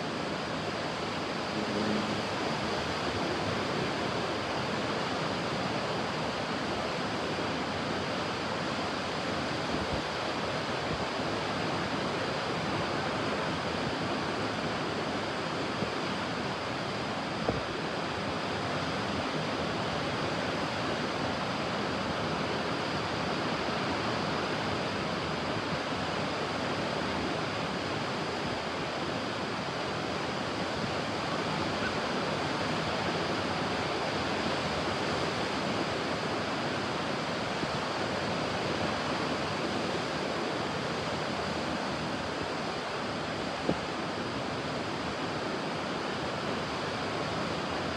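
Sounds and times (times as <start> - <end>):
ocean surf washing onto beach: 0.0 - 47.9.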